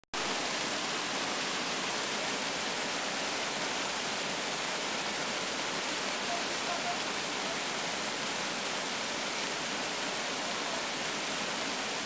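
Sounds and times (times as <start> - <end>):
waterfall rushing: 0.2 - 12.0.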